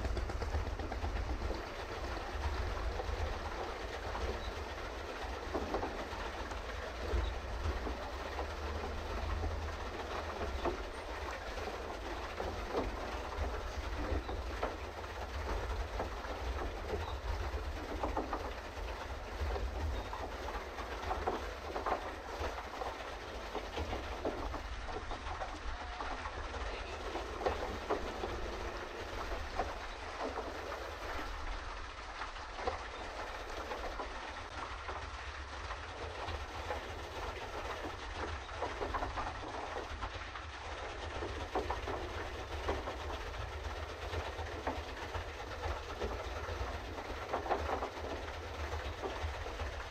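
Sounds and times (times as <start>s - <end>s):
paddle wheel churning water: 0.0s - 49.9s.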